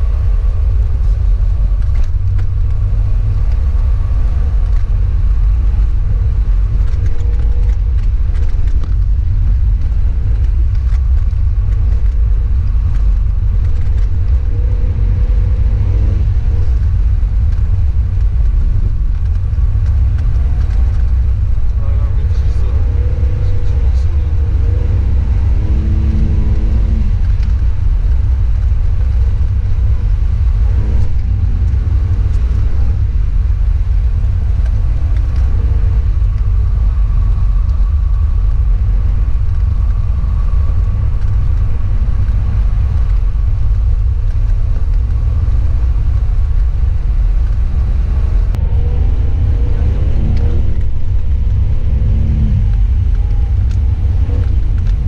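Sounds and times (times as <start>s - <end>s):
car engine: 0.0s - 55.0s
road rumble: 0.0s - 55.0s.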